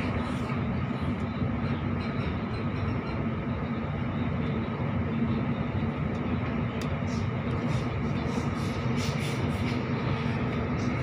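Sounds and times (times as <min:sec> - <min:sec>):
constant low hum: 0:00.0 - 0:11.0
train wheels rumbling on track: 0:00.0 - 0:11.0.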